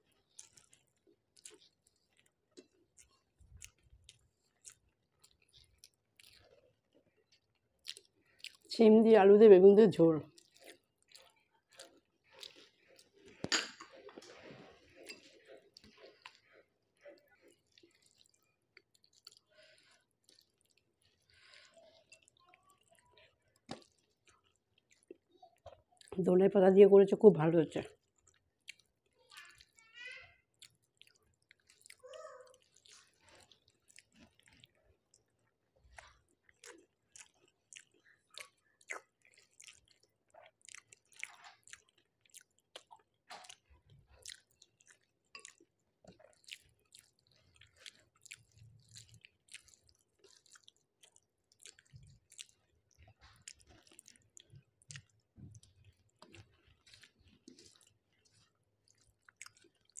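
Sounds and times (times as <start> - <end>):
wet chewing mouth clicks: 0.0 - 8.7, 10.3 - 26.2, 27.9 - 29.8, 30.5 - 60.0.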